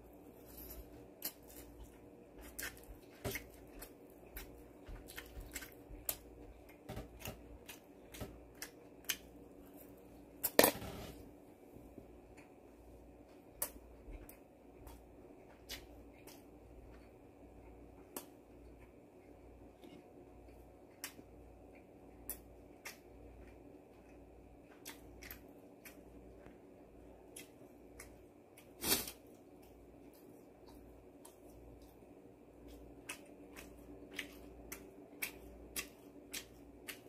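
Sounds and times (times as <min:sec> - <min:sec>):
man chewing crispy food: 0:00.2 - 0:10.4, 0:13.4 - 0:37.0.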